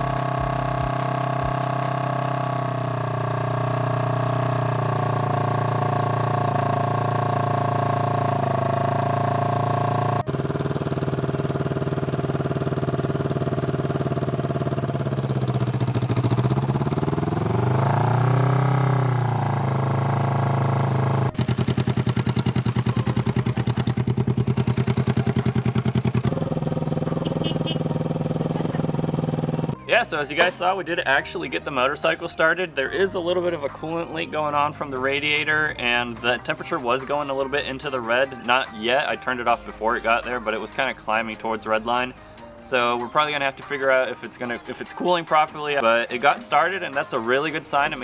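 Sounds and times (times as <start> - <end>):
motorcycle engine idling: 0.0 - 48.0.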